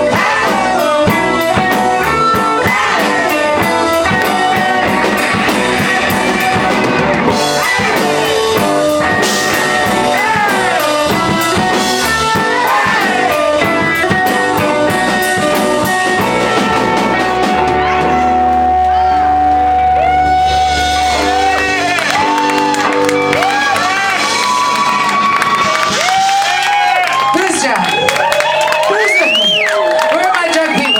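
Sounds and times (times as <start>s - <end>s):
guitar lead with bent notes: 0.0s - 26.9s
live rock band playing: 0.0s - 30.9s.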